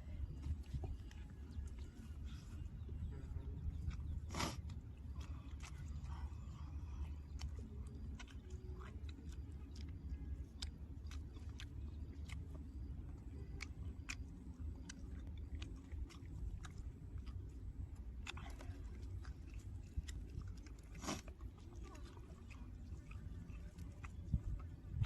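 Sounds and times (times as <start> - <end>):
low hum: 0.0 - 25.0
person chewing food: 3.6 - 25.0.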